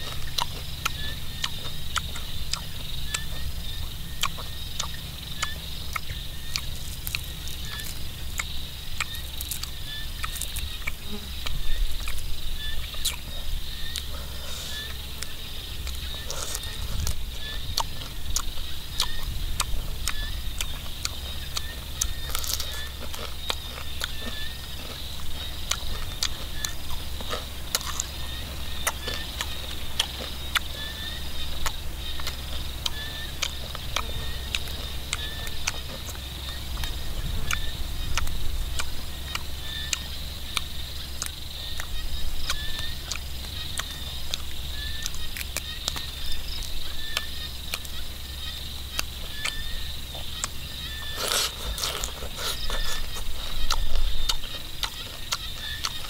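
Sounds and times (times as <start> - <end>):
crunching and chewing: 0.0 - 56.0
insects chorus in grass: 0.0 - 56.0
low steady rumble: 0.0 - 56.0.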